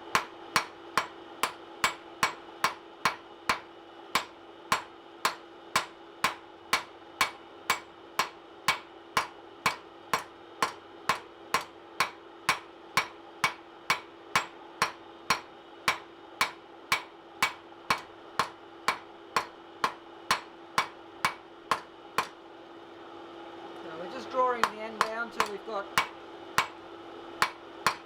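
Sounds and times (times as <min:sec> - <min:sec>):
hammer striking steel on anvil: 0:00.0 - 0:22.4, 0:24.6 - 0:26.8, 0:27.4 - 0:28.0
steady hum: 0:00.0 - 0:28.0.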